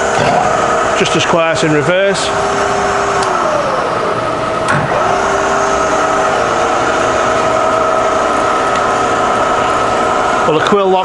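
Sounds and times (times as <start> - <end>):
machine whining tones: 0.0 - 11.0
milling machine motor hum: 0.0 - 11.0.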